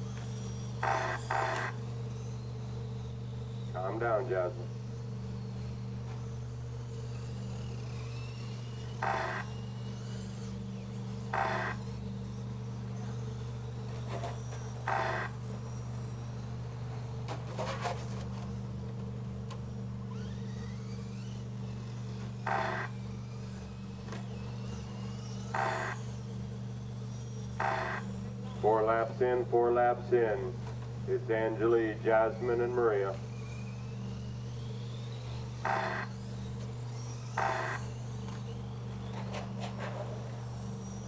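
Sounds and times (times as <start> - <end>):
rc truck motors whining: 0.0 - 41.0
steady hum: 0.0 - 41.0.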